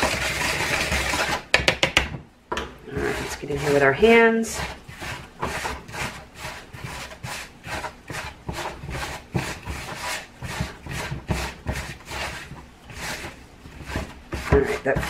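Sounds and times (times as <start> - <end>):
hands scrubbing gritty mix in bowl: 0.0 - 1.5, 2.9 - 15.0.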